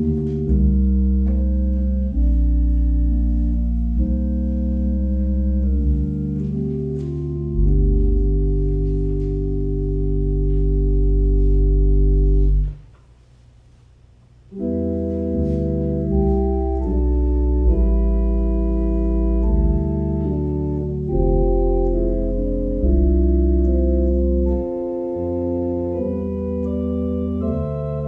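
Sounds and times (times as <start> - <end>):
church organ chords: 0.0 - 12.9, 14.5 - 28.0.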